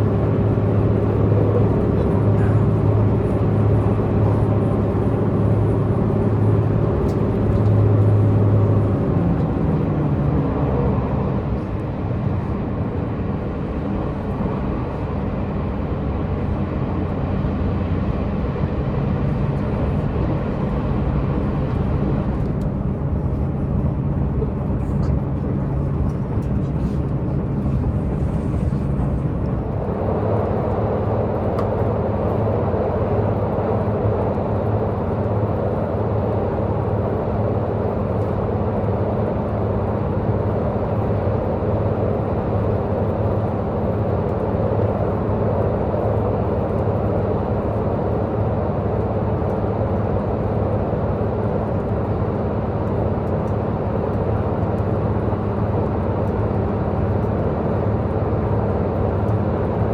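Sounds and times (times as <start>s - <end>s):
train diesel engine running: 0.0s - 59.9s
wheel and rail running noise: 0.0s - 59.9s.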